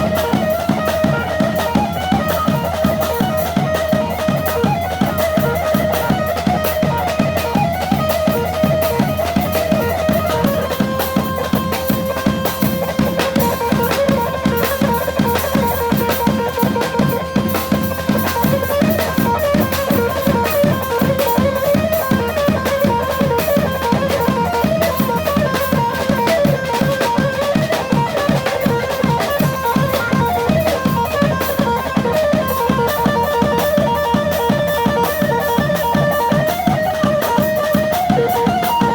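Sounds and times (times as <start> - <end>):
fast drum beat: 0.0 - 38.9
plucked-string melody: 0.0 - 38.9.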